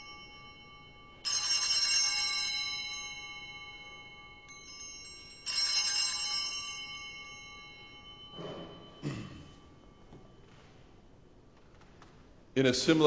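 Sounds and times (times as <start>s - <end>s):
altar bells chiming: 0.0s - 11.5s.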